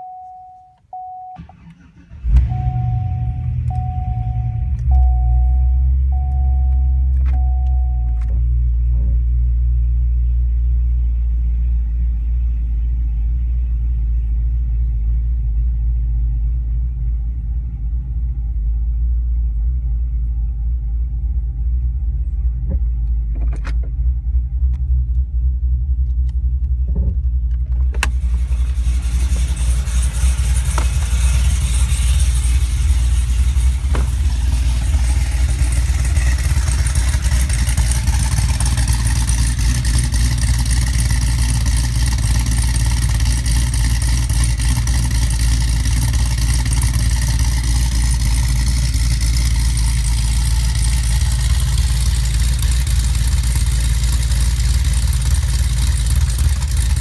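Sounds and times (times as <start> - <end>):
car engine starting and idling: 0.0 - 57.0.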